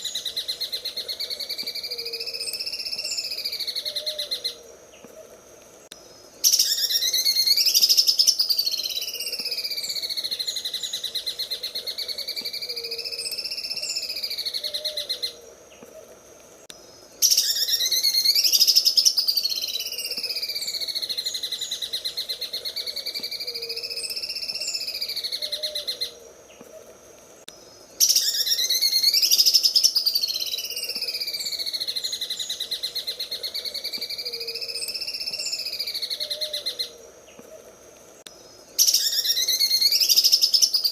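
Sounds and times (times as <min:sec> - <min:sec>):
bird singing fast rattling song: 0:00.0 - 0:05.1, 0:05.9 - 0:15.4, 0:16.7 - 0:26.7, 0:27.4 - 0:37.0, 0:38.2 - 0:40.9.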